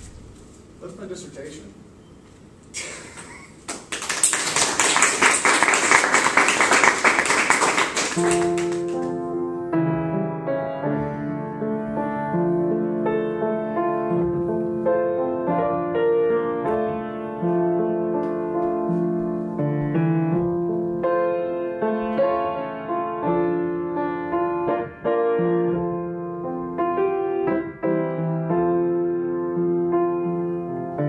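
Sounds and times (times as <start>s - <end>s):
slow piano music: 4.7s - 31.0s.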